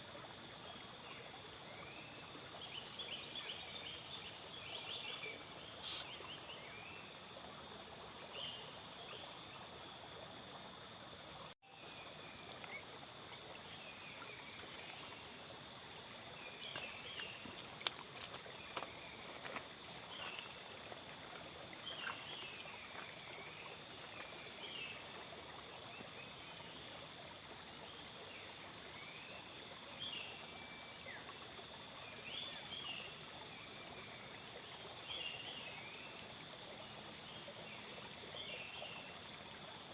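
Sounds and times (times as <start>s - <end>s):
high-pitched insect chorus: 0.3s - 39.9s.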